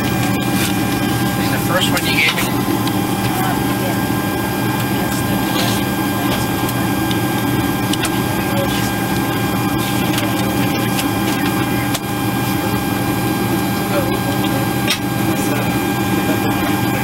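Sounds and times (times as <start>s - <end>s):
jet engine and airflow hum: 0.0s - 17.0s
thin cockpit tones: 0.0s - 17.0s.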